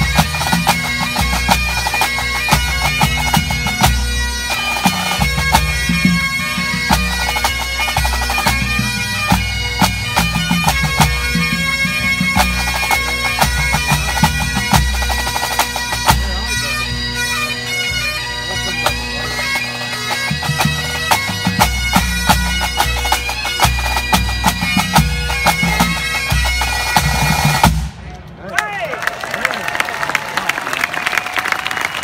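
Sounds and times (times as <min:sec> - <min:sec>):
bagpipes playing: 0:00.0 - 0:28.0.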